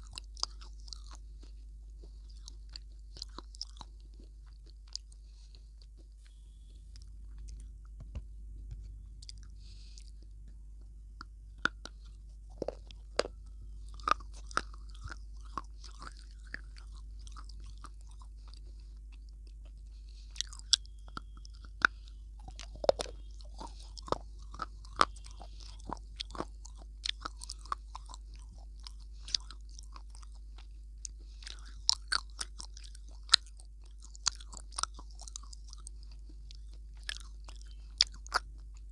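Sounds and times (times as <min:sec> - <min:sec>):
crunchy chewing: 0:00.0 - 0:38.9
steady low hum: 0:00.0 - 0:38.9.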